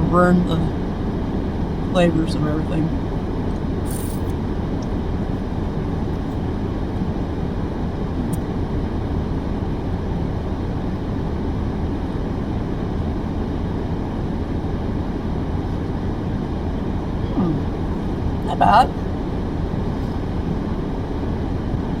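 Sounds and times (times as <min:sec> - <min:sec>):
vehicle running: 0:00.0 - 0:22.0.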